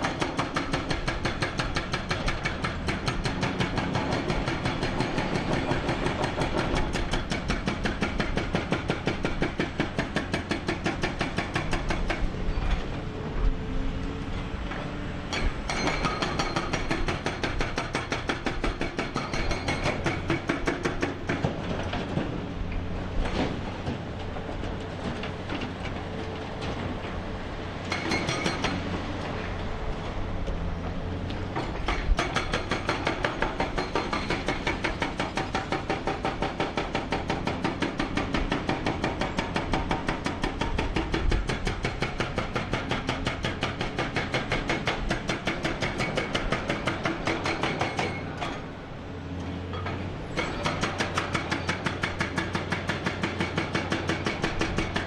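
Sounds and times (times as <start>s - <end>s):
excavator tracks clattering: 0.0s - 55.0s.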